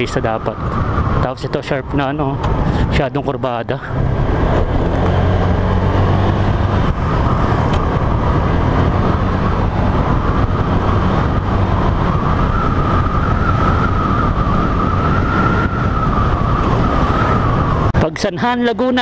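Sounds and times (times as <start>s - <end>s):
motorcycle engine cruising: 0.0s - 18.0s
road and wind noise: 0.0s - 19.0s.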